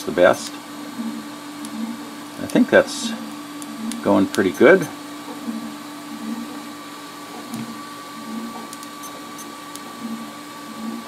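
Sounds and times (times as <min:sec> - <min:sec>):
fan hum: 0:00.0 - 0:11.0
stepper motor buzzes: 0:00.0 - 0:11.0.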